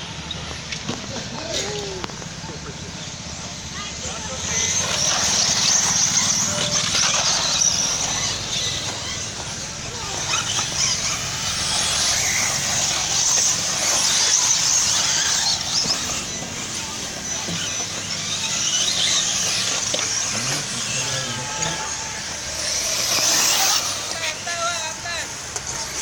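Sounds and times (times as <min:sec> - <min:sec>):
electric toy car motors whining: 0:00.0 - 0:26.0.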